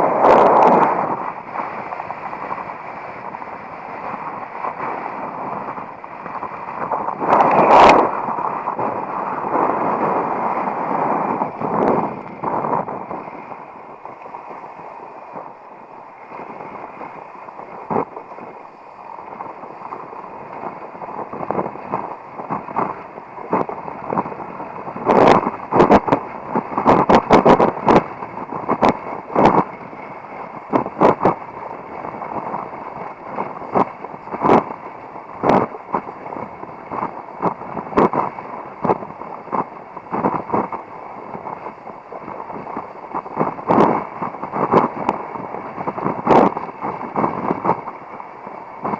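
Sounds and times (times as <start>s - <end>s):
board slapping water: 0.0s - 48.9s
wind and water rushing: 0.0s - 48.9s.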